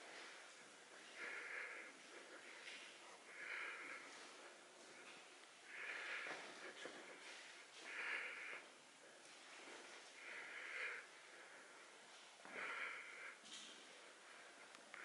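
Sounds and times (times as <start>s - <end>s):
person breathing: 0.0s - 15.0s.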